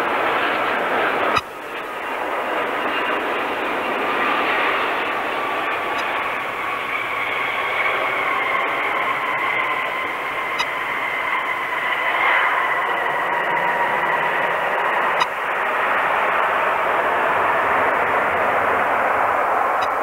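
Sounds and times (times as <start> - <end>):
jet engines whining on landing: 0.0 - 20.0.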